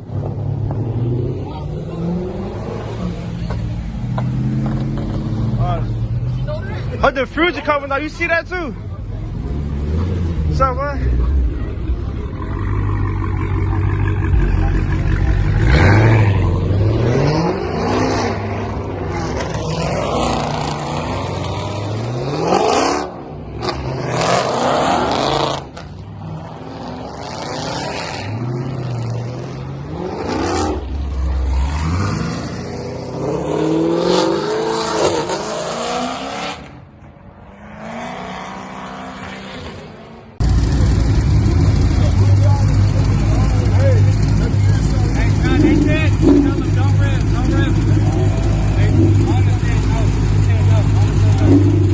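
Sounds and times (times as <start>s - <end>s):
car engines revving and accelerating: 0.0s - 51.9s.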